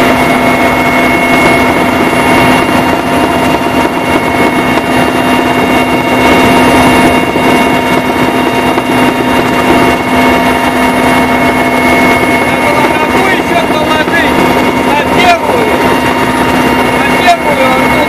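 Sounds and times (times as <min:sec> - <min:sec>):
loud engine drone with whining tones: 0:00.0 - 0:18.0.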